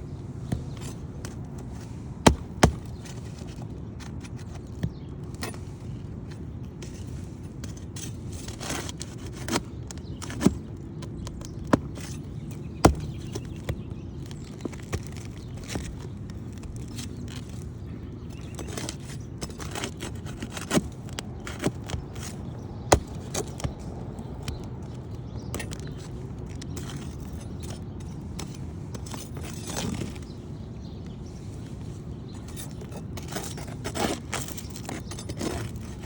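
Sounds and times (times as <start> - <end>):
prying and scraping shingles: 0.1 - 36.0.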